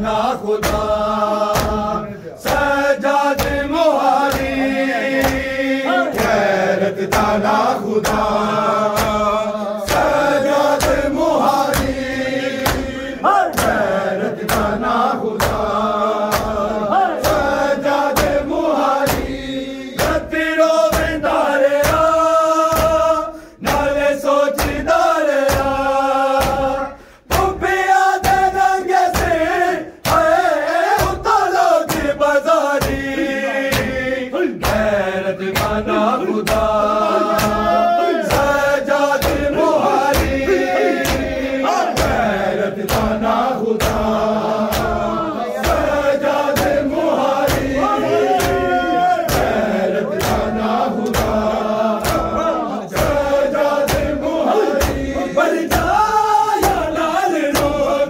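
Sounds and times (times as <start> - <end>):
chest-beating thumps: 0.0 - 24.0, 24.6 - 57.9
men chanting in unison: 0.0 - 58.0.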